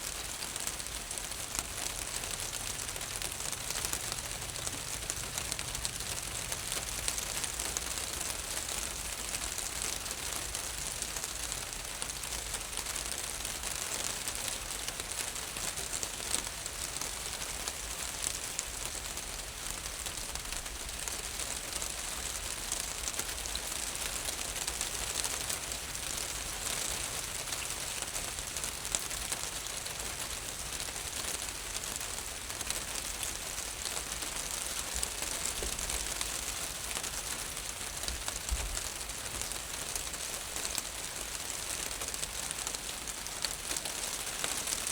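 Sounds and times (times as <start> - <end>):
rain on a roof: 0.0 - 44.9.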